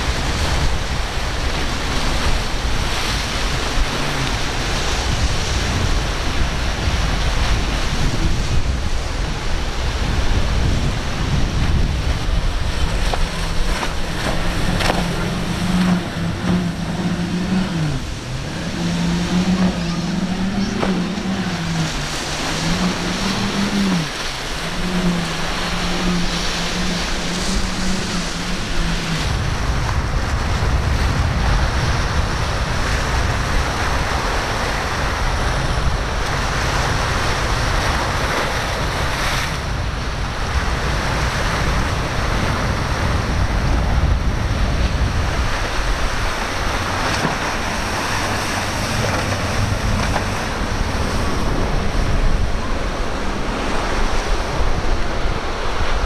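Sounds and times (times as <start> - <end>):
motorboat engine droning: 0.0 - 56.0
surf washing: 0.0 - 56.0
wind buffeting microphone: 0.0 - 56.0.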